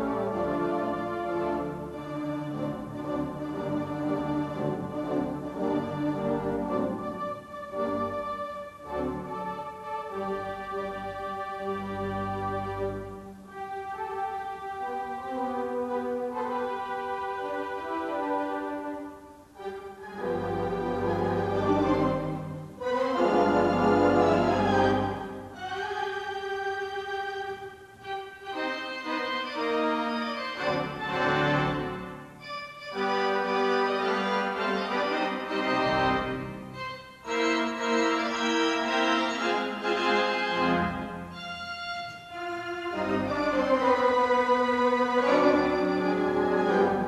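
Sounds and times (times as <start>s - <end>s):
background music chords: 0.0s - 47.0s.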